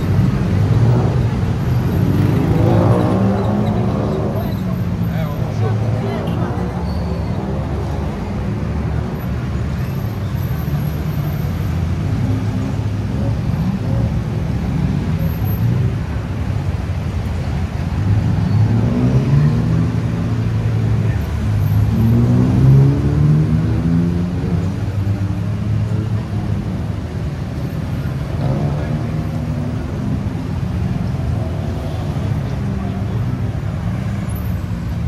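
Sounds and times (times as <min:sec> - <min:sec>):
busy road traffic: 0:00.0 - 0:35.0.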